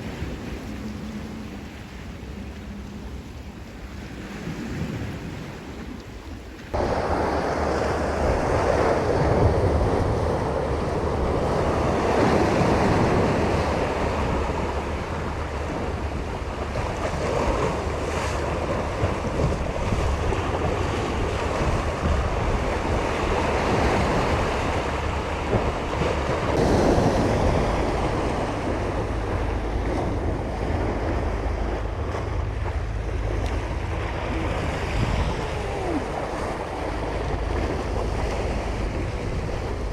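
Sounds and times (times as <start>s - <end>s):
sea waves washing on shore: 0.0s - 39.9s
wind buffeting microphone: 0.0s - 39.9s.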